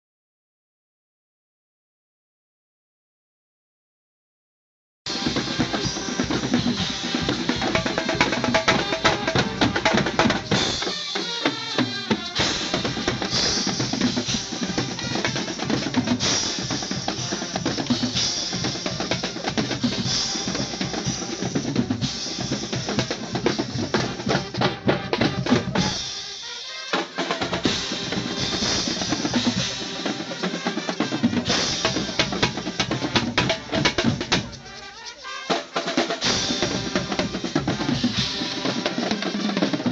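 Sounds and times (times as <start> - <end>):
band playing: 5.1 - 39.9
bass drum and snare drum beating: 5.1 - 39.9.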